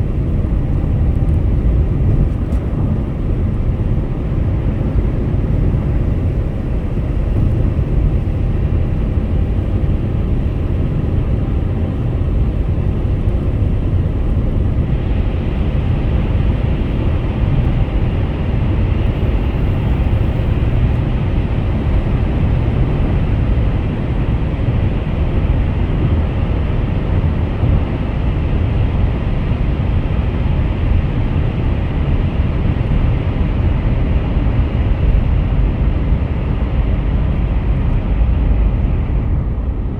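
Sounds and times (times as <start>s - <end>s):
car road rumble and tyre noise: 0.0s - 39.9s.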